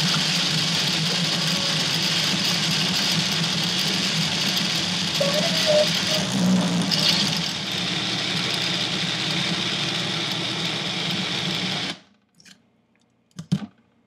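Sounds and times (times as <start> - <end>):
blender motor whining: 0.0 - 12.0.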